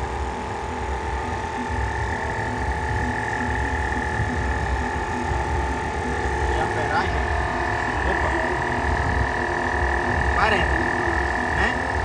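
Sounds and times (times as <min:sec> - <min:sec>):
air compressor whining and rumbling: 0:00.0 - 0:12.0.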